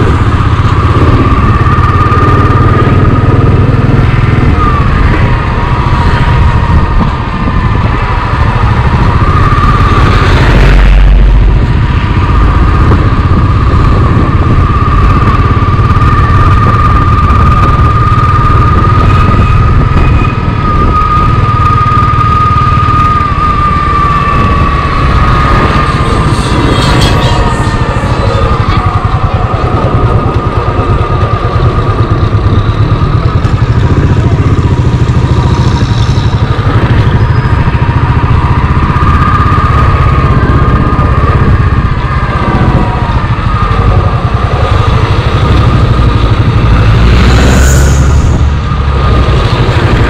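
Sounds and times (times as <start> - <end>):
motorcycle engine rumble and whine: 0.0 - 50.0.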